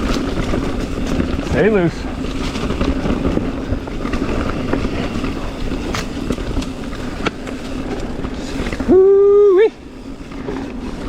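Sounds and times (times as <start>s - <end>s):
bike clacking over rocks: 0.0s - 9.0s
tyre and wind rush: 0.0s - 11.0s.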